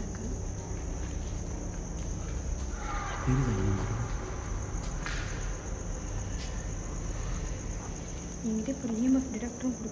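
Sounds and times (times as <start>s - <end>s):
crickets chirping: 0.0s - 9.9s.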